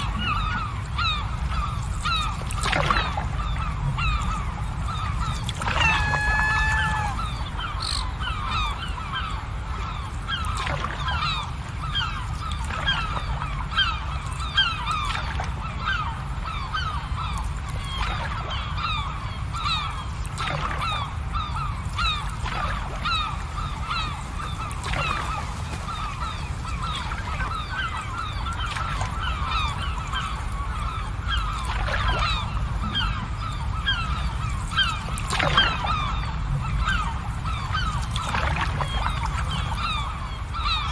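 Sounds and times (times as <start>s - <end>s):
flock of birds calling: 0.0s - 40.9s.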